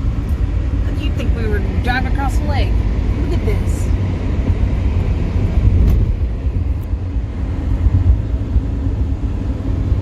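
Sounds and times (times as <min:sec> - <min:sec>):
car driving heard from inside: 0:00.0 - 0:10.0.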